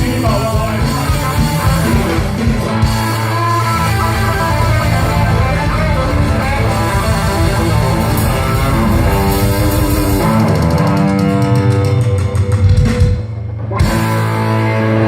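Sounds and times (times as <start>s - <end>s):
bass guitar: 0.0s - 15.0s
electric guitar: 0.0s - 15.0s
live rock band playing: 0.0s - 15.0s.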